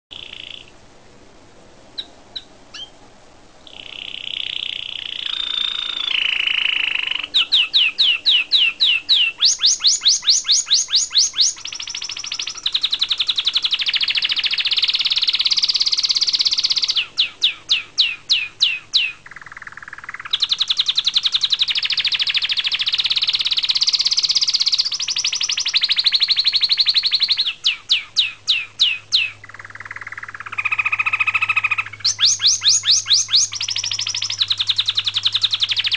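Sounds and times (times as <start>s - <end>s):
canary singing: 0.1s - 0.8s, 2.0s - 3.0s, 3.6s - 35.9s.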